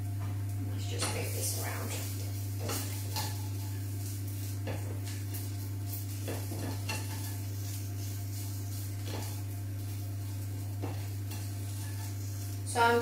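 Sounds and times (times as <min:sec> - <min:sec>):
steady low hum: 0:00.0 - 0:13.0
spatula scraping in frying pan: 0:01.1 - 0:13.0.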